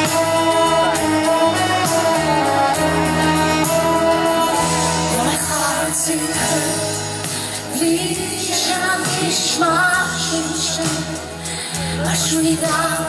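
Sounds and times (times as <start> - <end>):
live band playing pop music: 0.0 - 13.0
man singing: 0.0 - 13.0
woman singing: 0.0 - 13.0.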